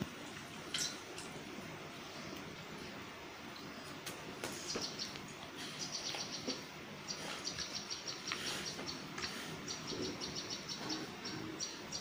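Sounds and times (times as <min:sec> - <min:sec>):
small birds chirping: 0:02.0 - 0:12.0.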